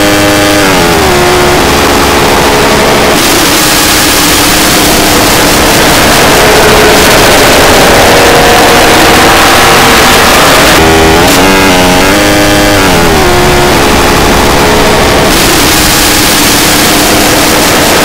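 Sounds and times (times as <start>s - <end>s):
distorted electronic noise: 0.0s - 18.0s
wavering pitched tones: 0.0s - 18.0s.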